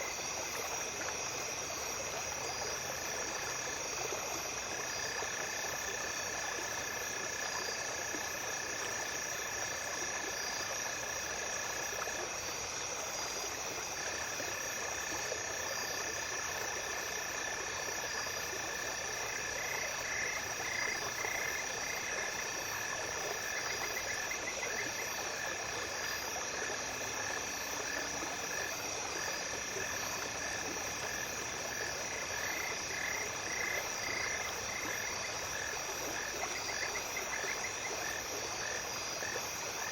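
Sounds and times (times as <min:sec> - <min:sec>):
insects trilling: 0:00.0 - 0:39.9
small stream running: 0:00.0 - 0:39.9.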